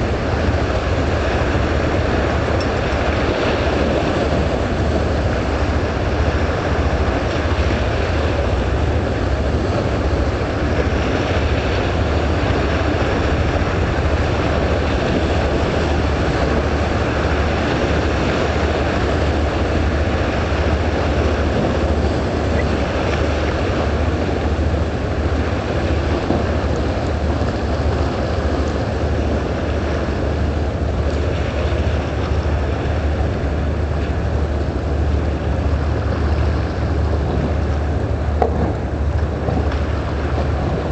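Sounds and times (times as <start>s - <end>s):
boat engine drone: 0.0s - 40.9s
rushing water: 0.0s - 40.9s
wind: 0.0s - 40.9s.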